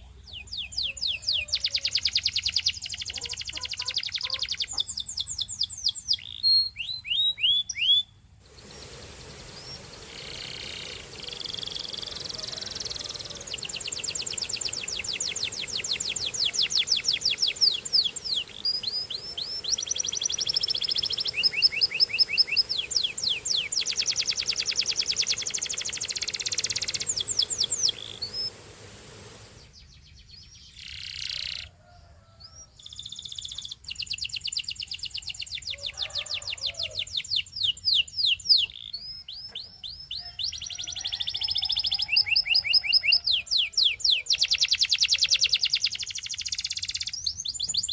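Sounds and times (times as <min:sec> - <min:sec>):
canary singing trills: 0:00.0 - 0:28.6, 0:29.4 - 0:47.9.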